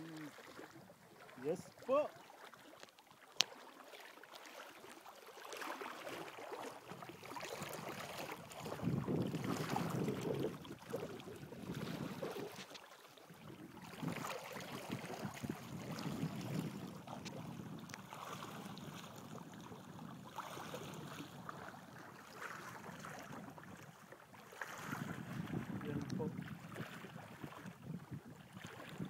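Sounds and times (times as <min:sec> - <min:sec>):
water splashing around wading legs: 0:00.0 - 0:27.8, 0:28.4 - 0:29.0.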